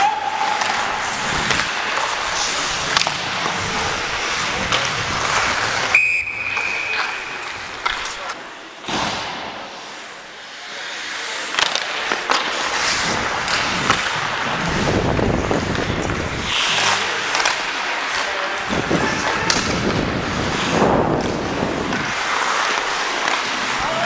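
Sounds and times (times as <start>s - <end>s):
hockey sticks and puck clacking: 0.0s - 24.0s
skates scraping on ice: 0.0s - 24.0s.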